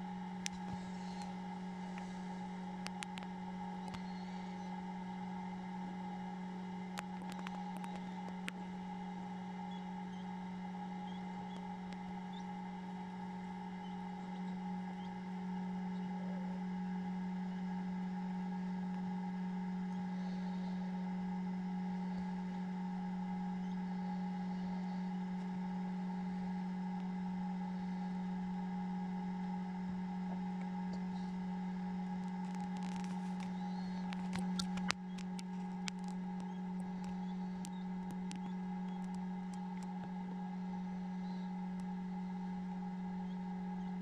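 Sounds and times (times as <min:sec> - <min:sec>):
incubator electrical hum: 0:00.0 - 0:44.0.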